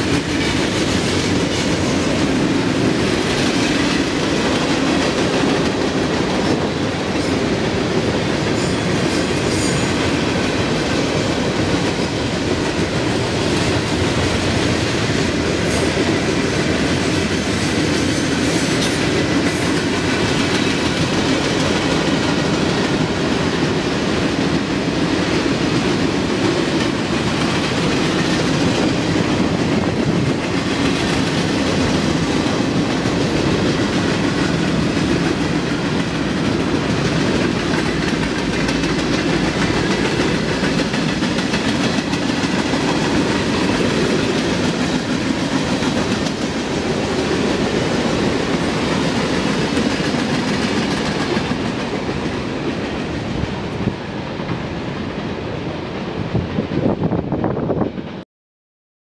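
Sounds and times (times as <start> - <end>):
freight train wheels rumbling: 0.0 - 58.2.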